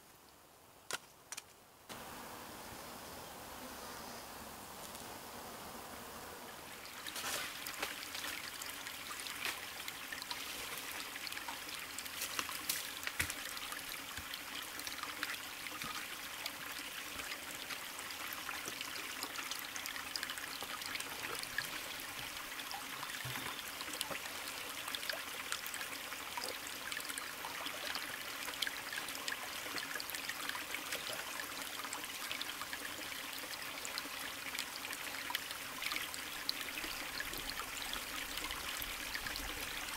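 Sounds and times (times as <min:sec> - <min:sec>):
stream trickling over rocks: 0:06.7 - 0:39.9.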